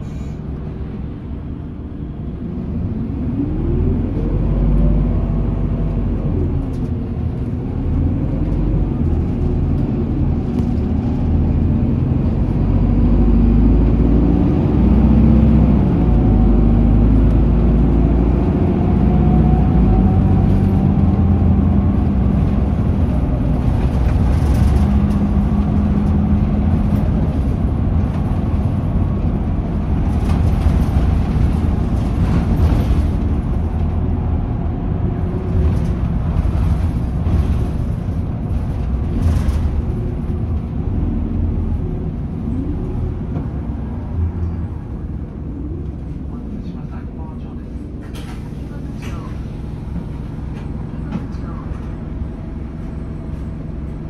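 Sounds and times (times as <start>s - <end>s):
bus engine rumble: 0.0s - 54.0s
road noise: 0.0s - 54.0s
rising drivetrain whine: 1.1s - 54.0s.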